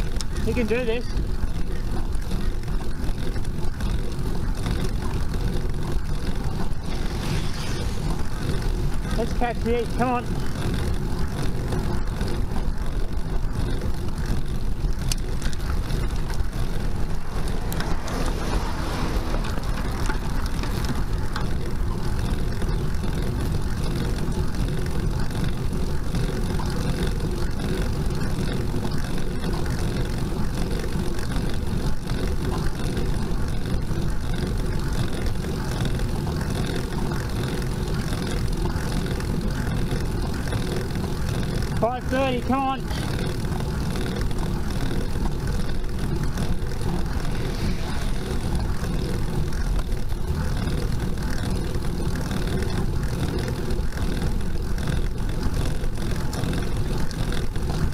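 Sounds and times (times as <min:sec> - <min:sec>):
wind and road rumble: 0:00.0 - 0:57.9.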